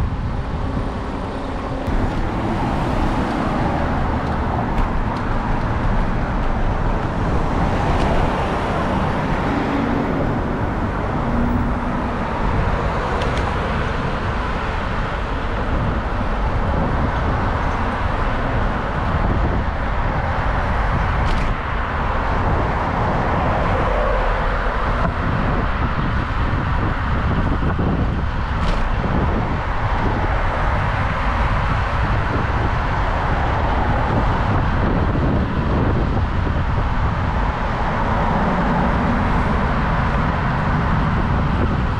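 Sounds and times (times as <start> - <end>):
traffic on busy road: 0.0 - 41.9.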